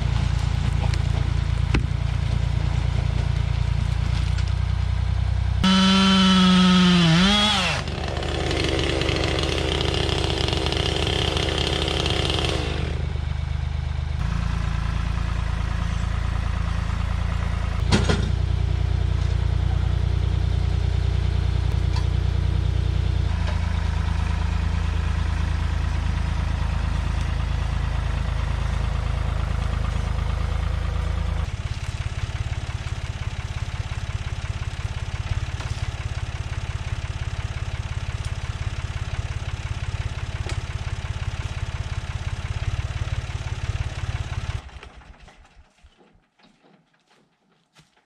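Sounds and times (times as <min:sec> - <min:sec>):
tractor engine running: 0:00.0 - 0:46.3.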